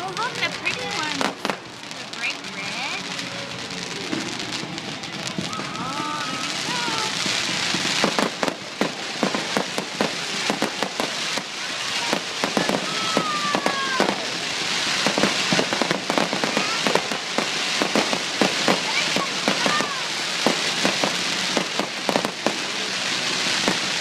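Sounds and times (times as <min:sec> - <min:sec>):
fireworks bangs and crackles: 0:00.0 - 0:24.0
hiss of burning: 0:00.0 - 0:24.0
whistling firework: 0:00.1 - 0:24.0.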